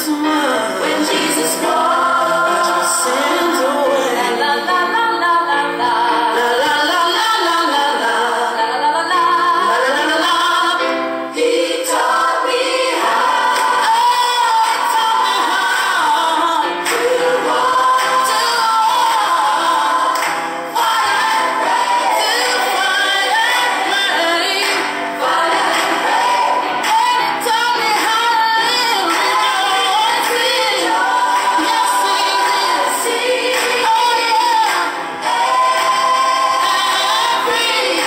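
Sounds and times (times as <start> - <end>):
group of voices singing: 0.0 - 38.0.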